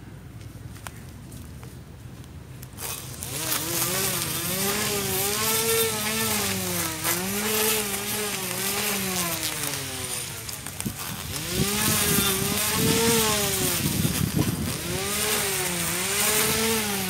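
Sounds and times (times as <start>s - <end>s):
grass being cut: 2.6s - 17.0s
electric motor whine: 2.7s - 17.0s.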